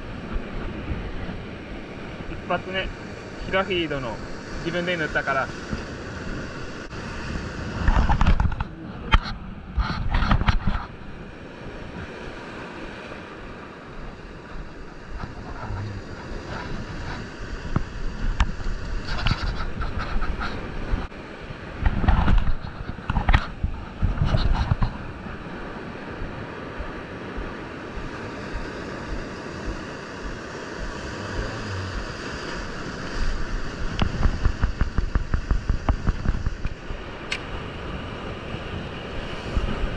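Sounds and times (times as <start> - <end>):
wind buffeting microphone: 0.0 - 4.8, 5.5 - 39.9
waves breaking over rocks: 0.0 - 39.9.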